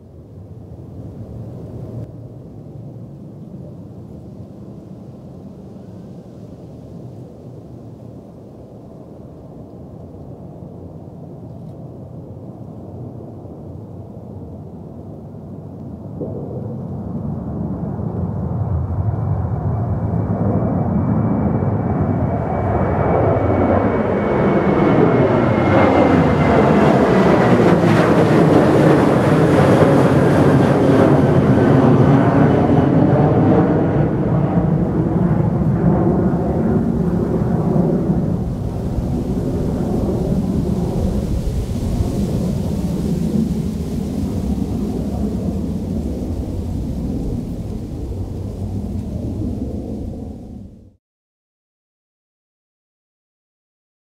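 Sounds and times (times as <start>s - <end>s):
jet engine rumble: 0.0s - 51.0s.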